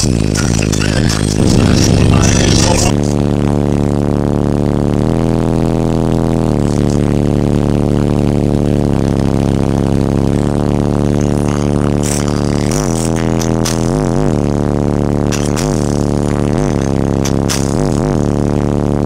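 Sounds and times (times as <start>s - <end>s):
bass-heavy music from subwoofers: 0.0s - 19.0s.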